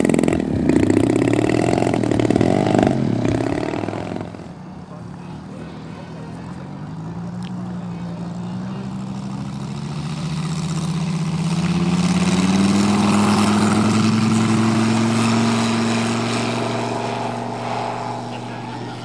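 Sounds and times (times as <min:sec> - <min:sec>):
model airplane engine at full throttle: 0:00.0 - 0:19.0.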